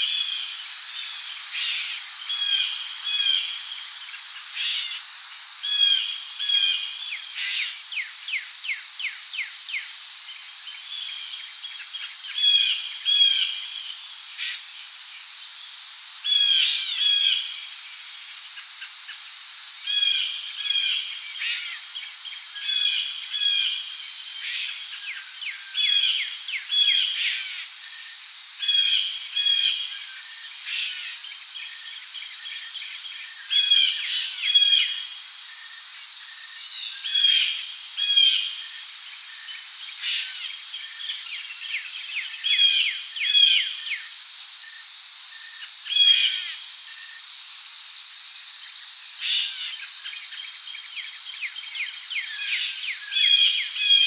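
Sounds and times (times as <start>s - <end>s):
crickets droning: 0.0s - 54.0s.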